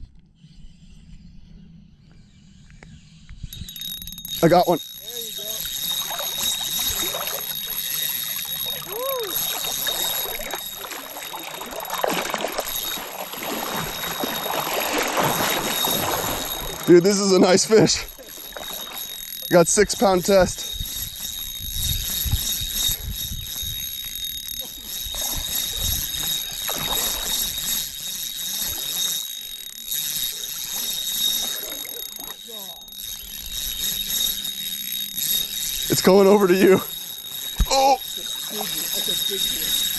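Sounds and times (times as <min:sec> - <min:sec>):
fishing reel ratcheting: 0:03.5 - 0:39.9
water sloshing around boat: 0:04.1 - 0:39.9.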